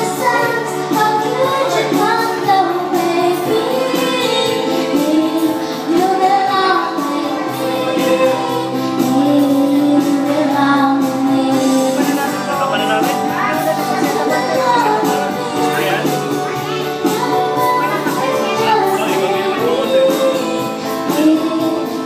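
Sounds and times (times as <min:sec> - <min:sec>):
girl singing into a microphone: 0:00.0 - 0:12.4, 0:13.2 - 0:22.0
electronic keyboard chords: 0:00.0 - 0:22.0.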